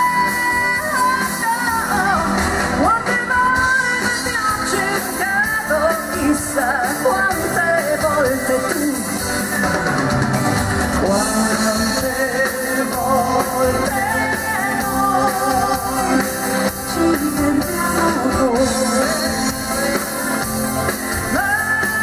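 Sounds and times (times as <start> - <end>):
live pop band: 0.0 - 22.0.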